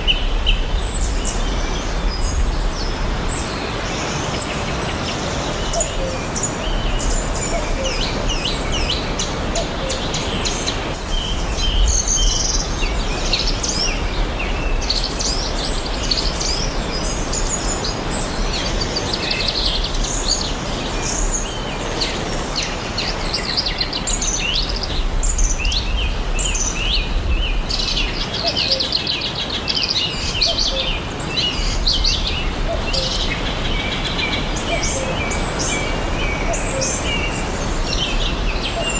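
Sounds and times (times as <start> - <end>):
songbirds chirping and trilling: 0.0 - 38.9
steady rushing background noise: 0.0 - 38.9.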